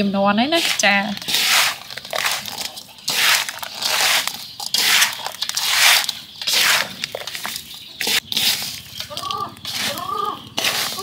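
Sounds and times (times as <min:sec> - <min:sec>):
hands mixing wet gritty food: 0:00.4 - 0:11.0.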